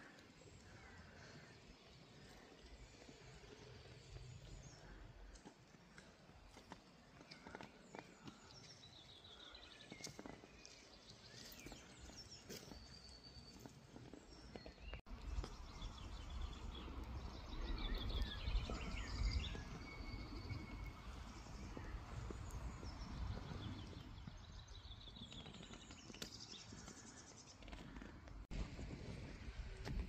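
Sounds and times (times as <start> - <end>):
songbirds chirping: 0.0 - 28.5.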